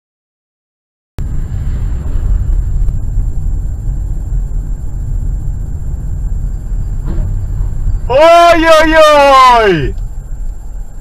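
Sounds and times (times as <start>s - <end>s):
car engine and tyre rumble: 1.2s - 11.0s.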